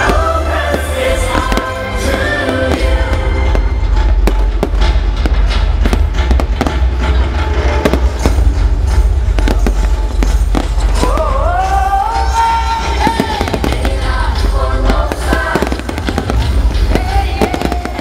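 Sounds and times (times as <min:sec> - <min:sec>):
fireworks banging: 0:00.0 - 0:18.0
loud music: 0:00.0 - 0:18.0.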